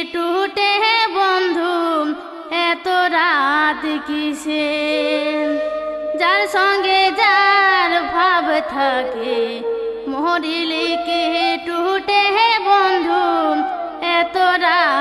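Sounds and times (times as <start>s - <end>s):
woman singing folk song: 0.0s - 15.0s.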